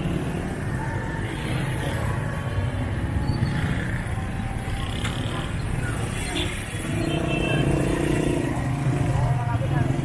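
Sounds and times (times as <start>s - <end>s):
motorcycle and car engines: 0.0s - 10.0s.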